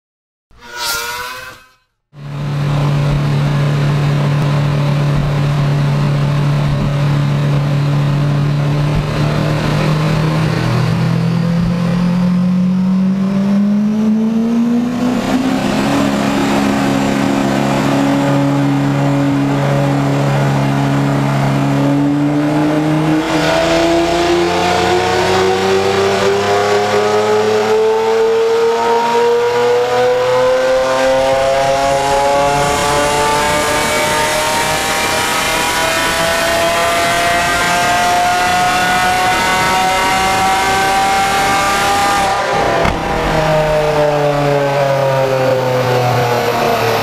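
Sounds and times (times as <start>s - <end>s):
car engine revving on a dyno: 2.2s - 47.0s.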